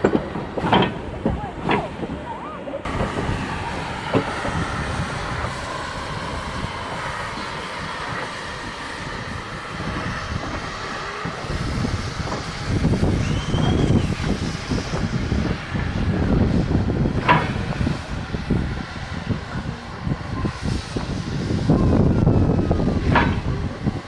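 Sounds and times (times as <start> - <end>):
train running on line: 0.0 - 24.0.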